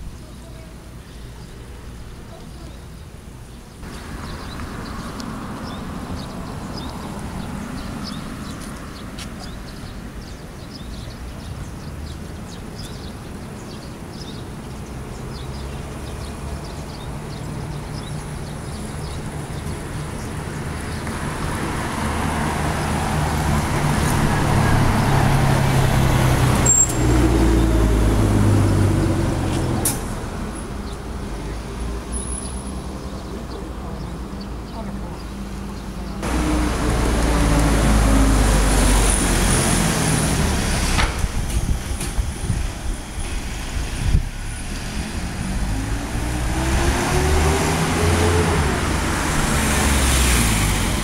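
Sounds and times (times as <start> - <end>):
street traffic: 0.0 - 51.0
bus engine: 3.3 - 51.0.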